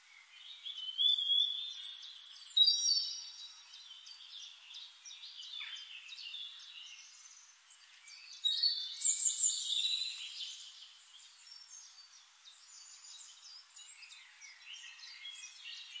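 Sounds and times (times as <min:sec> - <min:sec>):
birds chirping and trilling: 0:00.0 - 0:16.0.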